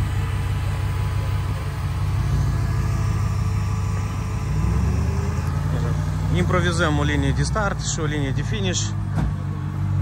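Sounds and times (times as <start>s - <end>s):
buggy engine rumbling: 0.0s - 10.0s.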